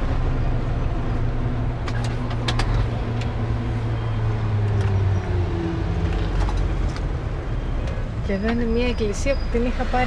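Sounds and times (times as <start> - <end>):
road noise: 0.0 - 10.0
truck engine humming: 0.0 - 10.0.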